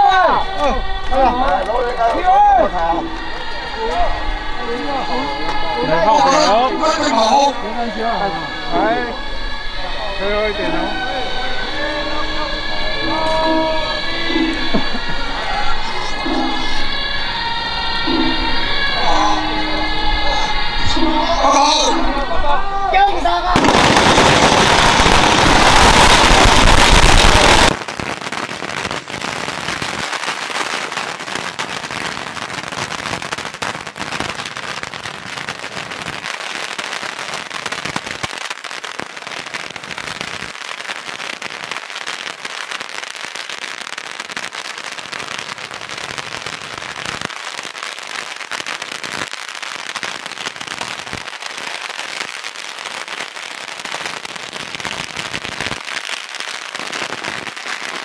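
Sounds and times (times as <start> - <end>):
firecrackers crackling: 0.0 - 58.0.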